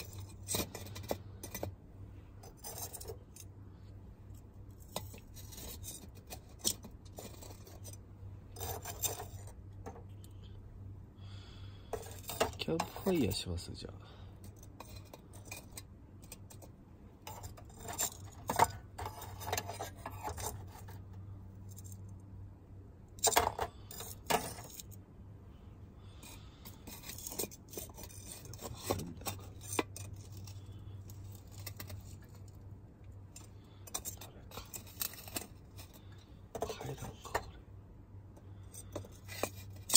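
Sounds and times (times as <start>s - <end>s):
light metallic clinks and scrapes: 0.0s - 10.7s, 11.3s - 39.9s
low steady hum: 0.0s - 39.9s.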